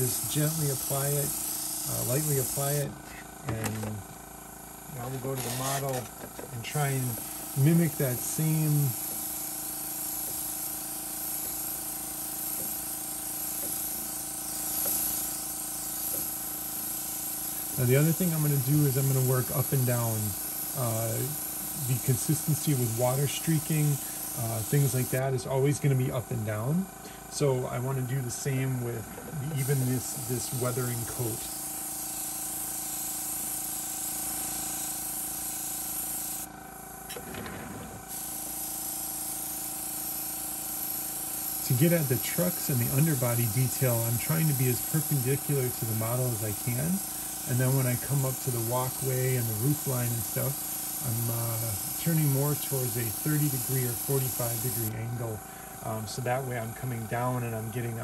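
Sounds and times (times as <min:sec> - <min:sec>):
air compressor humming: 0:00.0 - 0:58.0
airbrush spraying air hiss: 0:00.0 - 0:58.0.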